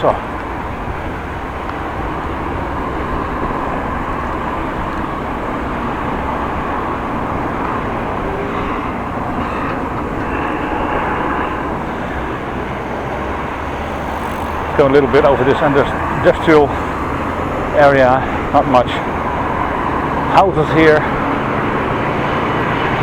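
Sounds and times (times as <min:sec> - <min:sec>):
bicycle road noise: 0:00.0 - 0:23.0
wind rushing: 0:00.2 - 0:20.3.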